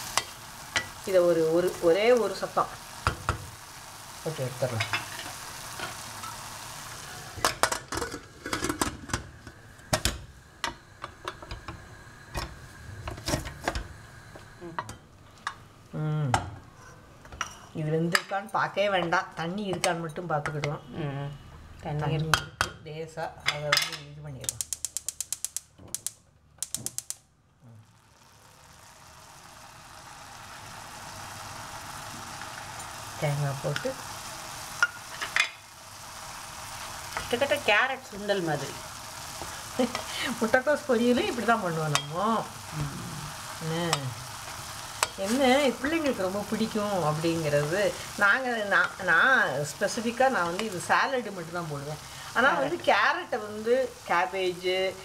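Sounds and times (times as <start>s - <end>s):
pot sizzling: 0.0s - 21.2s, 23.4s - 55.0s.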